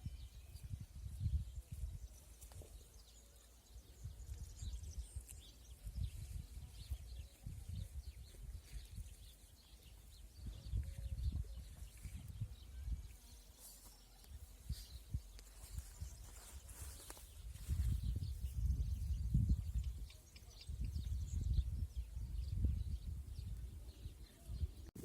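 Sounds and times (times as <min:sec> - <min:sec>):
wind rumbling on microphone: 0:00.0 - 0:13.4, 0:14.3 - 0:25.0
small birds chirping: 0:00.0 - 0:25.0.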